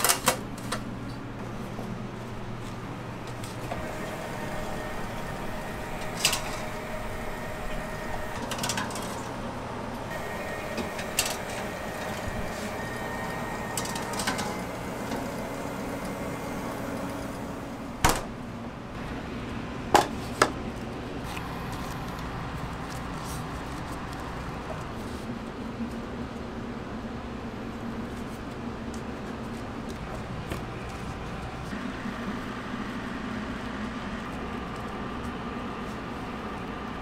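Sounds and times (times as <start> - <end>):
kitchen machinery hum: 0.0 - 37.0.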